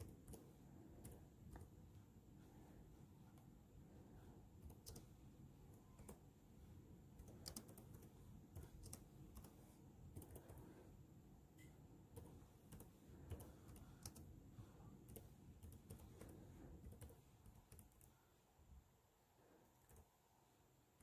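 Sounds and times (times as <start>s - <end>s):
faint laptop keyboard typing: 0.0s - 18.4s, 19.7s - 20.3s.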